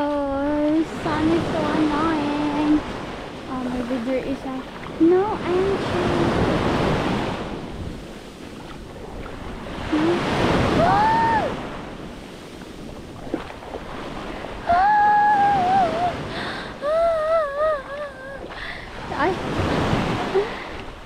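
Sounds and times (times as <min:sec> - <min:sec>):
wind on microphone: 0:00.0 - 0:21.0
surf washing onto sand: 0:00.6 - 0:21.0.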